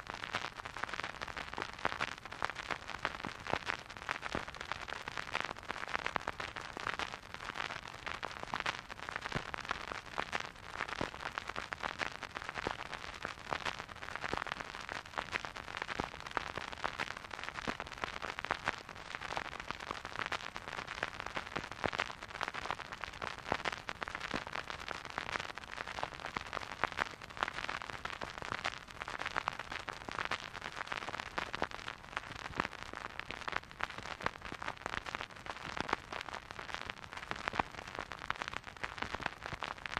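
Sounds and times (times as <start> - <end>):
vinyl record crackle and hiss: 0.0 - 39.9.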